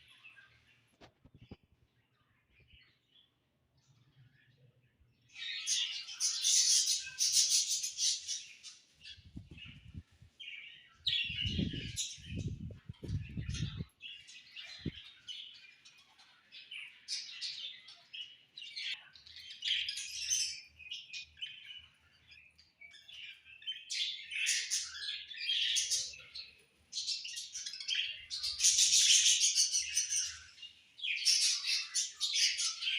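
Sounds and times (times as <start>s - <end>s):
budgerigars chirping and warbling: 5.3s - 32.9s.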